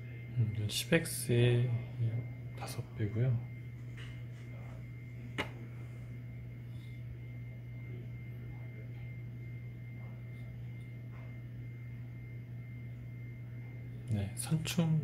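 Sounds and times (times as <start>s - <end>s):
faint high whine: 0.0s - 15.0s
low electrical hum: 0.0s - 15.0s.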